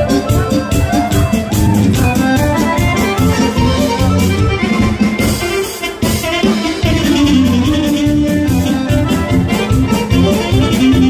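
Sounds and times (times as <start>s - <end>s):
fast folk dance music: 0.0s - 11.0s.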